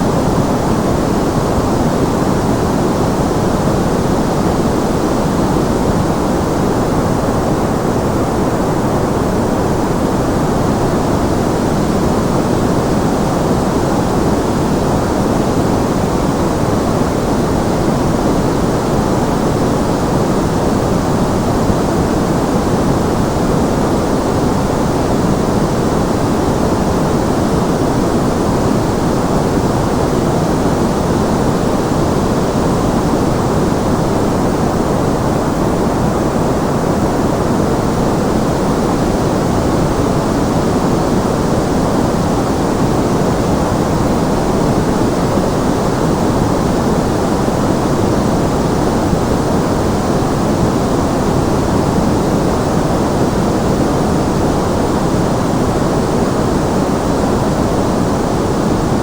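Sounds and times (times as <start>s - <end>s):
muffled white noise: 0.0s - 59.0s.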